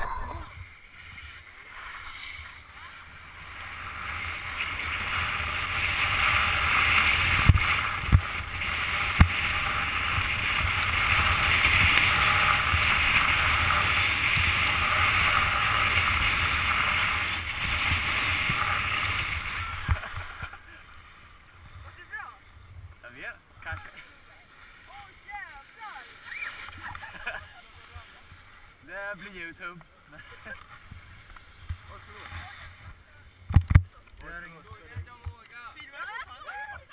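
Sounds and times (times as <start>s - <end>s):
skis scraping over packed snow: 0.0s - 36.9s.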